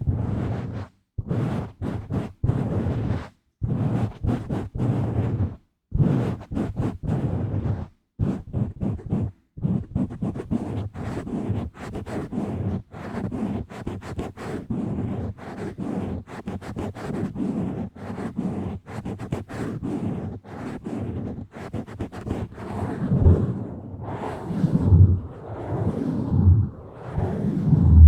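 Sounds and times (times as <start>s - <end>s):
fingers rubbing on microphone: 0.0s - 28.0s.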